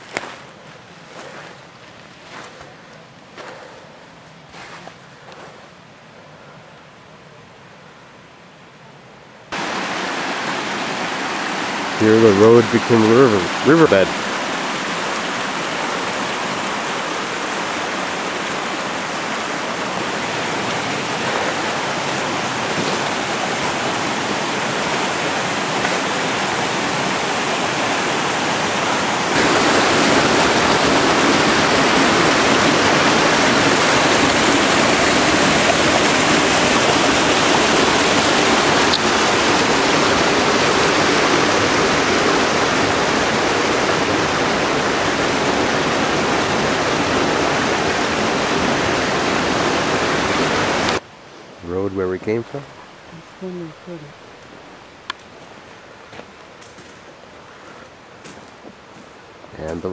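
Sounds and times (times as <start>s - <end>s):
stream rushing over rocks: 0.0s - 5.9s, 9.5s - 53.4s.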